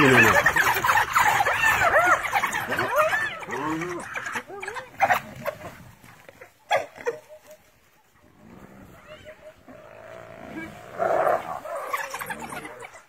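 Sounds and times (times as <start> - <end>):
wild animals calling: 0.0 - 5.9, 8.2 - 13.0.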